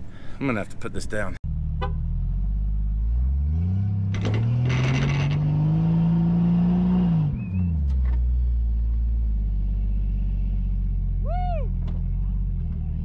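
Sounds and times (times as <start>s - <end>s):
off-road vehicle engine revving: 1.5s - 13.0s.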